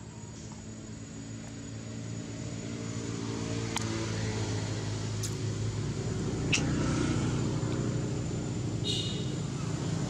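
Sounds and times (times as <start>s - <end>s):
engine hum: 0.0s - 10.0s.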